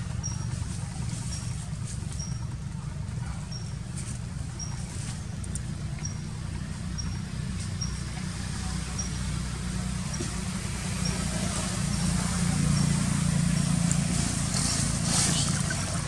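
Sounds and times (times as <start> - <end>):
vehicle engine hum: 0.0 - 16.0.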